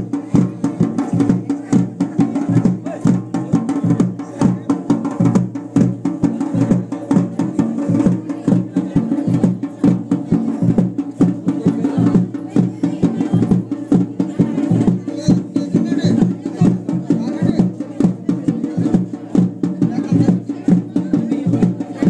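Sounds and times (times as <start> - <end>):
rapid drumming: 0.0 - 22.0.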